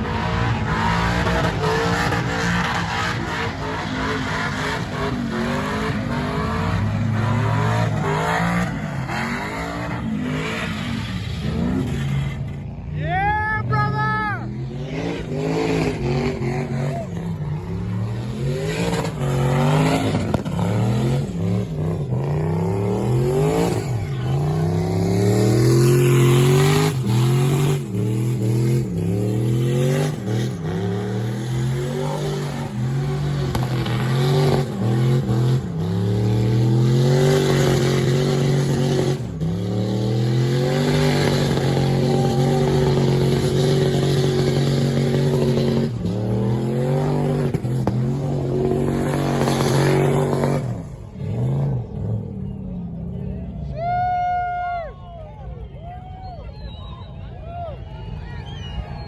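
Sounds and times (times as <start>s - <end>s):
truck engine revving: 0.0s - 53.7s.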